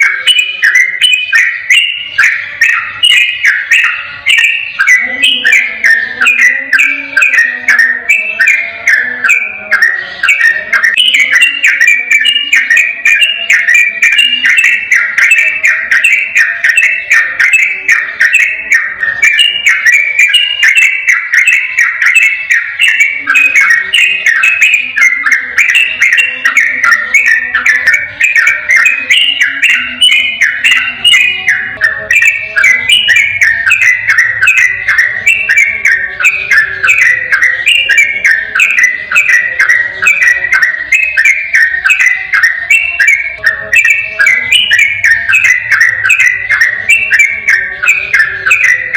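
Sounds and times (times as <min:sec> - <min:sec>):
bird whistled song: 0:00.0 - 0:48.9.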